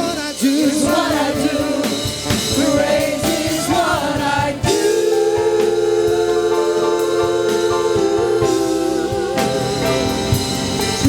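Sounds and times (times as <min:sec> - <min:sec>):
drums: 0:00.0 - 0:11.0
gospel band playing: 0:00.0 - 0:11.0.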